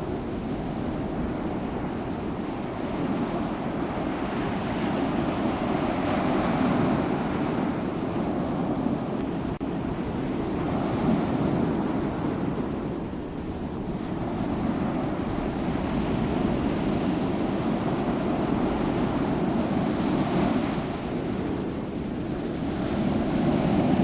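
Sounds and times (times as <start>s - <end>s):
sea waves washing ashore: 0.0s - 24.0s.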